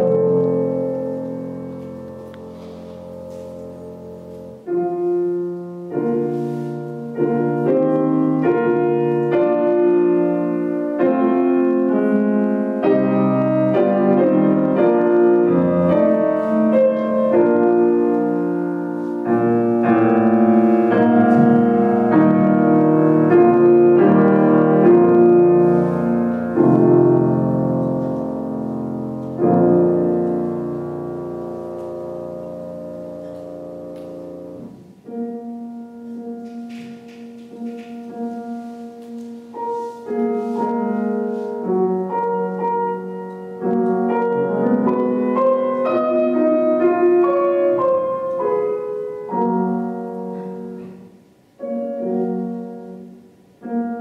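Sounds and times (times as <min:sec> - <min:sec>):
grand piano chords: 0:00.0 - 0:54.0.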